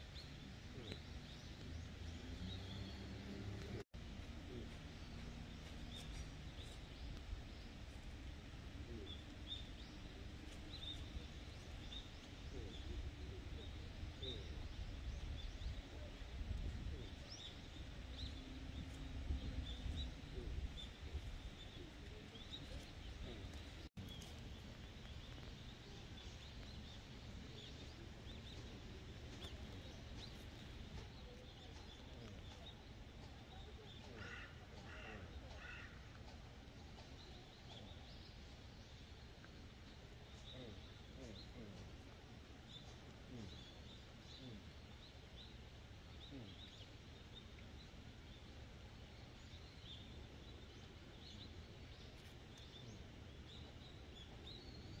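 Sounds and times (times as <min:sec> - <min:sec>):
low steady rumble: 0:00.0 - 0:55.0
small birds chirping: 0:00.0 - 0:55.0.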